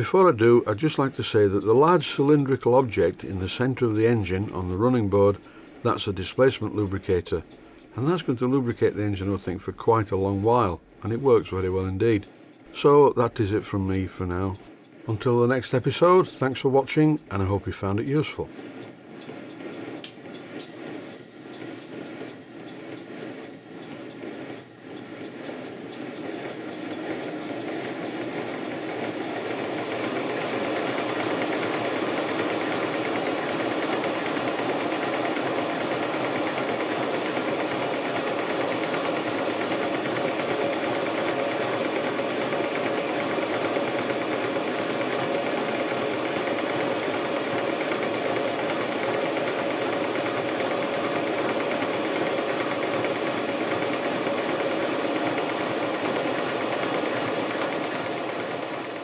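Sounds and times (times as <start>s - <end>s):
steam locomotive exhaust beat: 0.0s - 59.0s.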